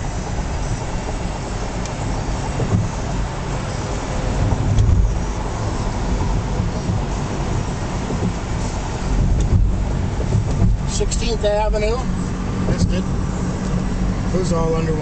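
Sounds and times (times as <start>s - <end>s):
car road noise at highway speed: 0.0s - 15.0s.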